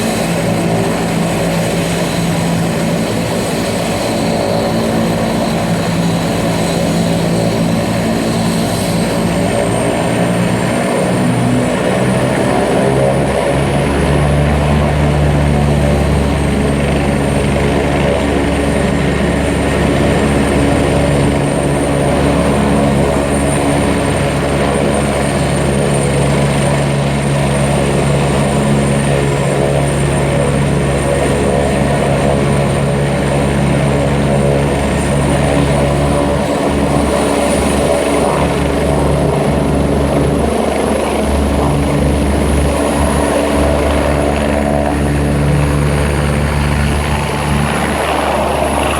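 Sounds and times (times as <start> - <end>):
helicopter engine and rotor drone: 0.0 - 48.9
helicopter turbine whine: 0.0 - 48.9.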